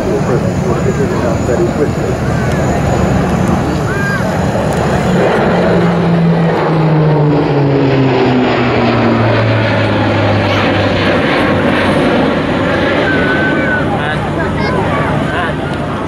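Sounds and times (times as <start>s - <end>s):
turboprop aircraft droning overhead: 0.0s - 16.0s.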